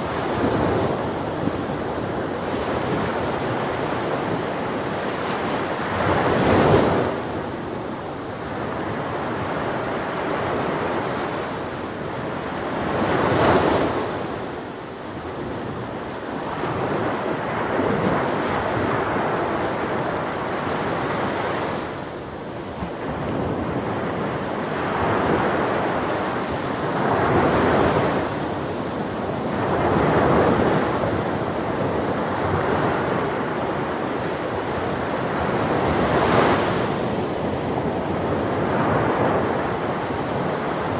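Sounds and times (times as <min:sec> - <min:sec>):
ocean waves breaking: 0:00.0 - 0:40.9
wind noise on microphone: 0:00.0 - 0:40.9.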